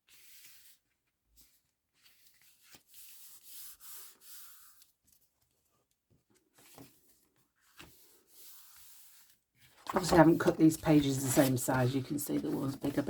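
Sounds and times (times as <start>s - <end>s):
paper rubbing and rustling: 0.0s - 5.7s, 6.4s - 13.0s.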